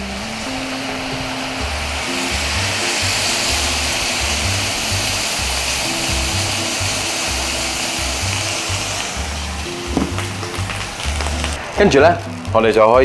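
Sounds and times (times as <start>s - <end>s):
background music: 0.0s - 13.0s
sauce sizzling and hissing: 0.0s - 13.0s.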